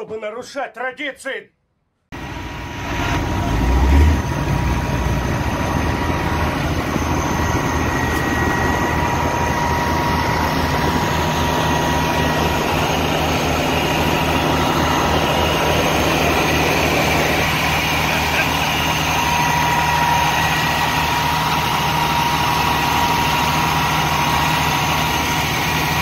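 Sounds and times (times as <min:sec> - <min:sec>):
diesel engine running: 0:02.2 - 0:26.0.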